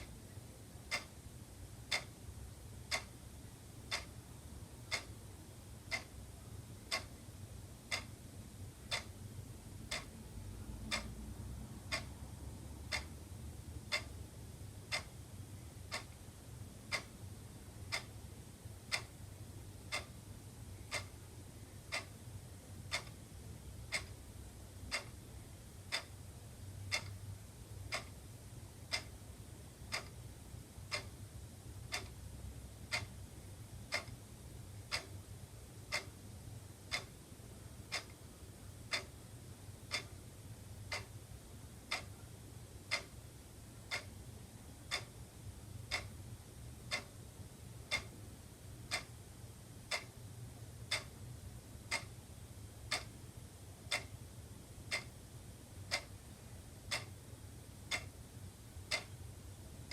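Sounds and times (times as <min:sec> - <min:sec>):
faint low hum: 0:00.0 - 0:59.9
wall clock ticking: 0:00.0 - 0:59.9.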